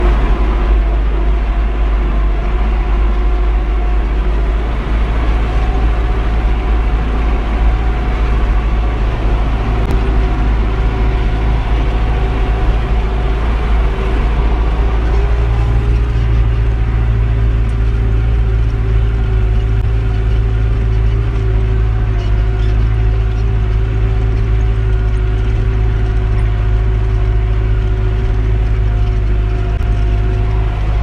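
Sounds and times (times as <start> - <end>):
tractor diesel engine droning: 0.0 - 31.0.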